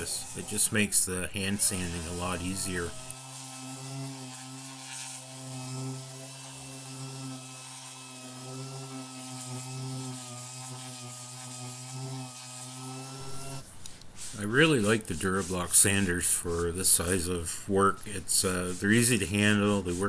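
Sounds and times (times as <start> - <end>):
orbital sander running: 0.0 - 20.0.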